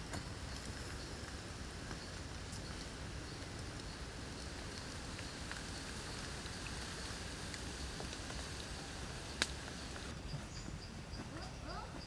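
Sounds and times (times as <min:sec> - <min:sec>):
wood fire crackling: 0:00.0 - 0:10.2.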